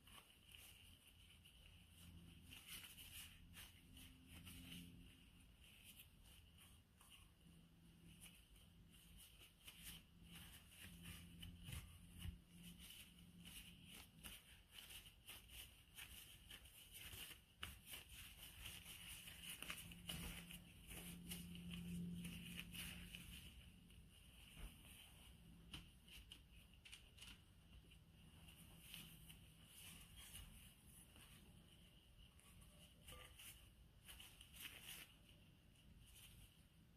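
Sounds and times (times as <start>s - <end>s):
plastic glove crinkling: 0.0s - 36.9s.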